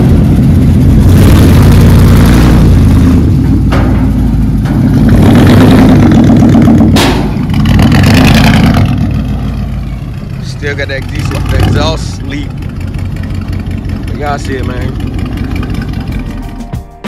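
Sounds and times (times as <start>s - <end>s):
truck engine running loud: 0.0s - 16.6s.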